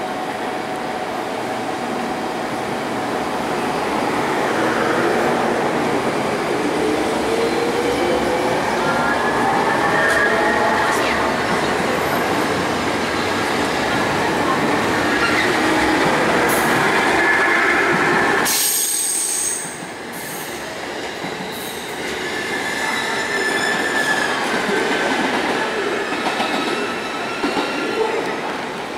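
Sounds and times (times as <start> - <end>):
train wheels rumbling on rails: 1.5 - 28.9.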